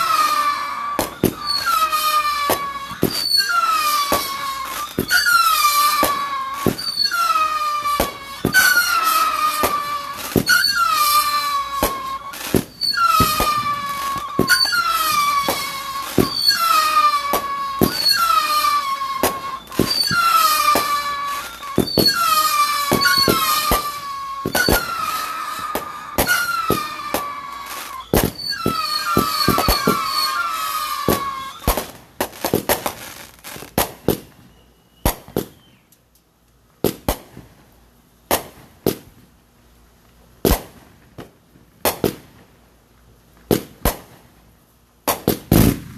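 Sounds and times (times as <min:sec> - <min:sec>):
fireworks bangs: 0:00.0 - 0:35.7, 0:40.4 - 0:42.3, 0:45.1 - 0:45.9
fireworks whistling: 0:00.0 - 0:35.9, 0:40.4 - 0:40.9, 0:45.1 - 0:45.9
fireworks pops: 0:00.0 - 0:37.5, 0:38.3 - 0:39.2, 0:40.4 - 0:42.5, 0:43.4 - 0:44.3, 0:45.0 - 0:45.9.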